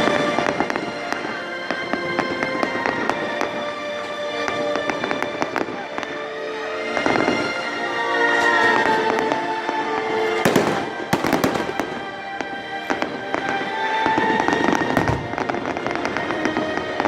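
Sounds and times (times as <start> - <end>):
fireworks cracking: 0.0 - 17.0
music playing: 0.0 - 17.0.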